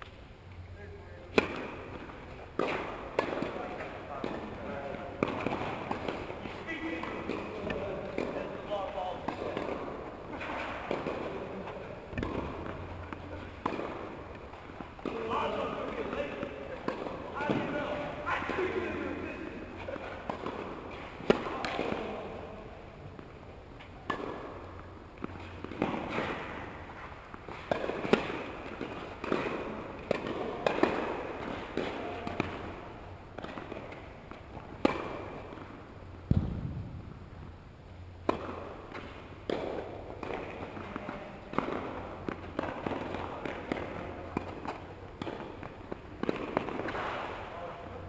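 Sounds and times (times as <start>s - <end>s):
tennis balls struck by rackets: 0.0s - 48.0s
tennis balls bouncing on hard court: 0.9s - 48.0s.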